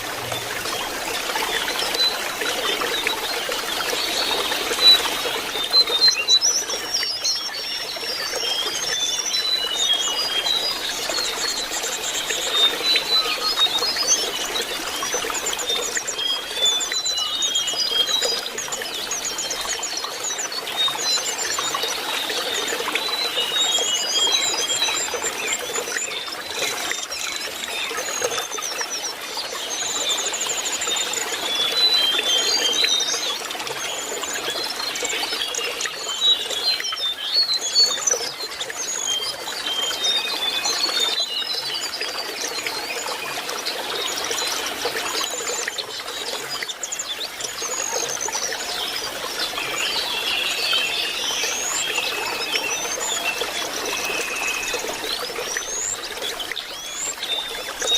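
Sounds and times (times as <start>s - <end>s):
bird singing twittering trills: 0.0s - 57.9s
water trickling: 0.0s - 57.9s.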